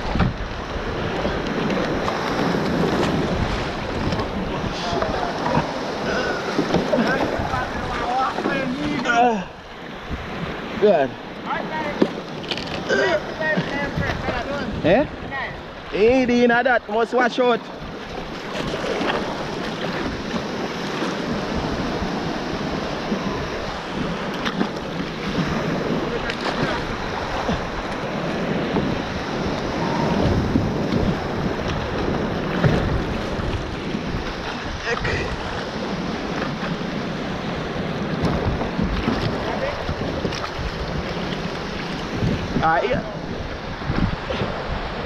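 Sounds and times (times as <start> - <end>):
surf breaking over reef: 0.0 - 45.0
water washing around raft: 0.0 - 45.0
wind buffeting microphone: 0.0 - 45.0.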